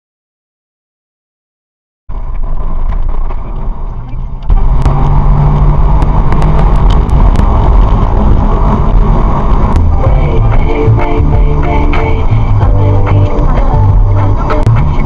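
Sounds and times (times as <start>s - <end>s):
car engine and road noise: 2.1s - 15.0s.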